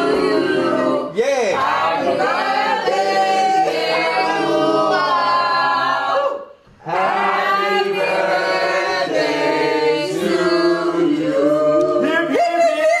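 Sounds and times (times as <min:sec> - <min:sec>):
group of people singing: 0:00.0 - 0:12.4.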